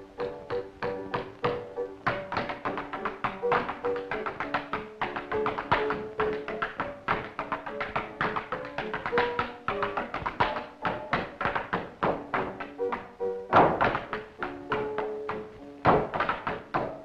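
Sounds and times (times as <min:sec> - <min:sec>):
tap shoes striking stage floor: 0:00.0 - 0:17.0.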